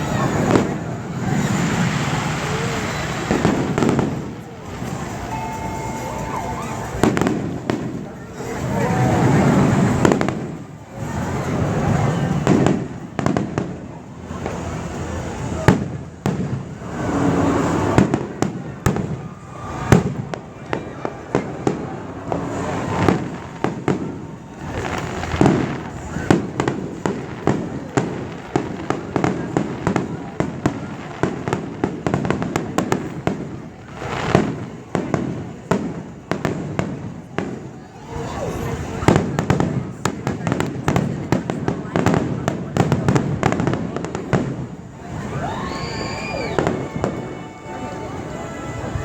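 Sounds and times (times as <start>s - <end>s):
fireworks cracks: 0.0s - 49.0s
fireworks rumble of booms: 0.0s - 49.0s
sharp fireworks bangs: 0.0s - 49.0s.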